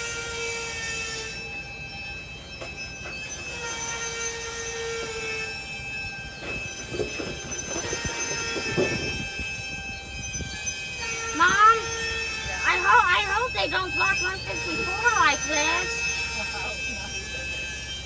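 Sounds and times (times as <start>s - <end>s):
train wheels squealing on rail: 0.0s - 18.0s.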